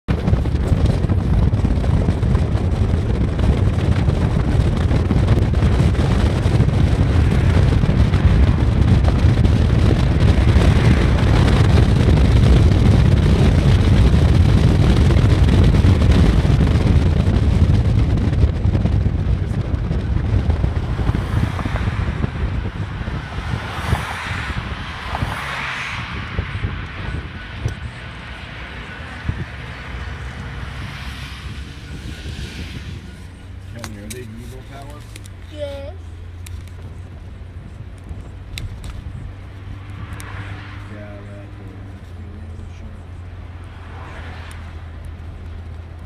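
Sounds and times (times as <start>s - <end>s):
car road noise rumble: 0.0s - 46.0s
wind on microphone: 0.1s - 46.0s.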